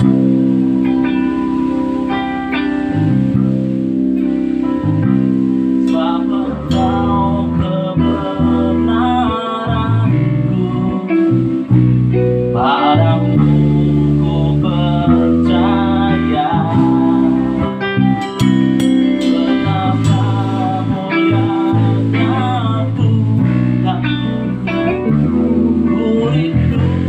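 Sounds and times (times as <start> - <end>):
band playing: 0.0 - 27.0
wavering lead guitar line: 0.0 - 27.0.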